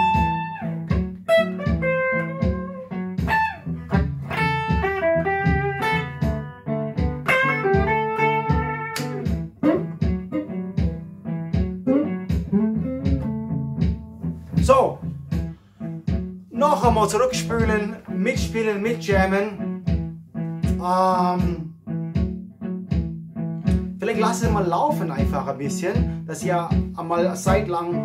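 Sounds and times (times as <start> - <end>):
electric guitar blues solo: 0.0 - 24.5
blues backing track with beat: 0.0 - 28.0.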